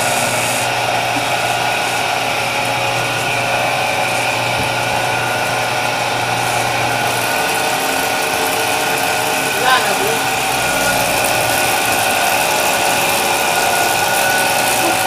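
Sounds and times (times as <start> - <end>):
dough roller machine humming: 0.0 - 15.0.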